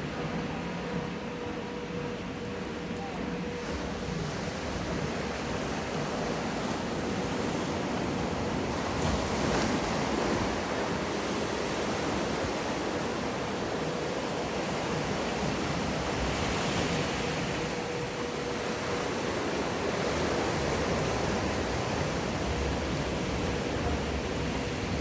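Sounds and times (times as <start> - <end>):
waves breaking and washing: 0.0 - 25.0.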